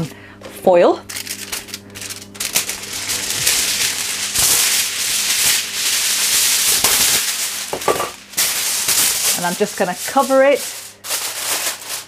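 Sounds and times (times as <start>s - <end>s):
kitchen foil crinkling: 0.9s - 12.0s.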